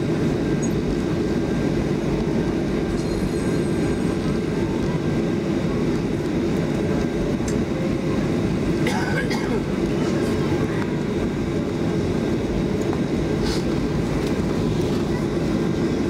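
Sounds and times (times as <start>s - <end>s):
jet engines: 0.0s - 16.0s.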